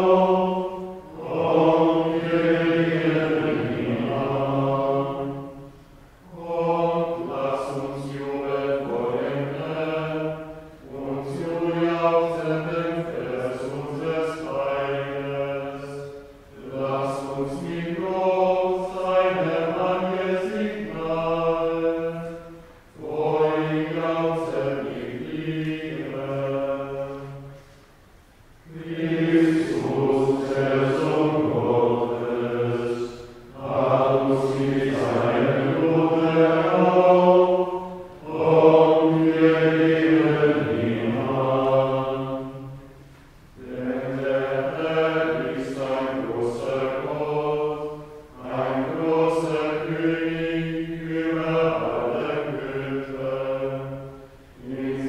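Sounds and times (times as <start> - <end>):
men chanting plainchant: 0.0 - 27.7, 28.7 - 42.8, 43.6 - 55.0.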